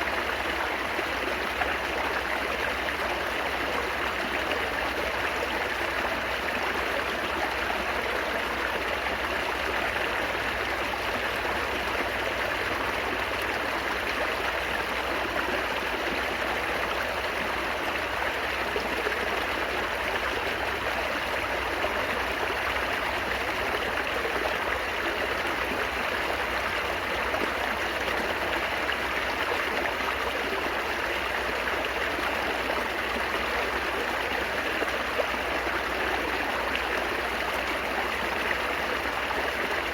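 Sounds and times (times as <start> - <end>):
water babbling over rocks: 0.0 - 39.9.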